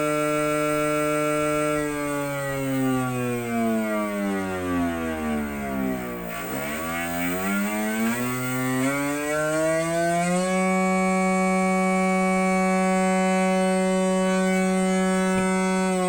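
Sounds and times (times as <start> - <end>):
simulated motorcycle engine sound: 0.0 - 16.0.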